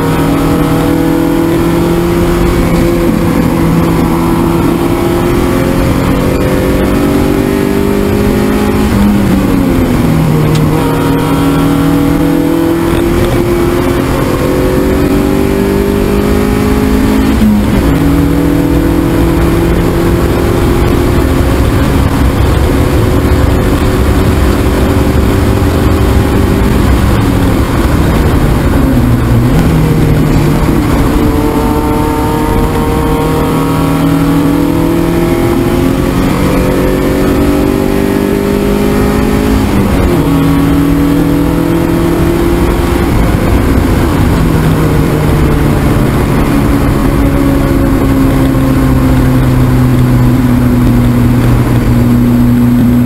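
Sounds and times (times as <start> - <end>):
car engine revving: 0.0 - 53.0
road and tyre noise: 0.0 - 53.0.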